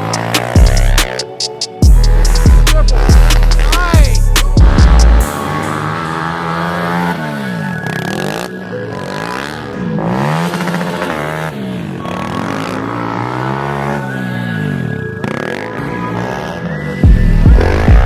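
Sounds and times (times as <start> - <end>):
pit bike engines revving: 0.0 - 18.0.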